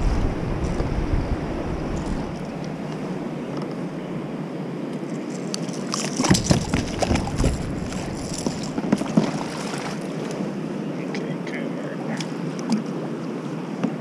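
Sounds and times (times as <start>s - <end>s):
river current rushing: 0.0s - 13.8s.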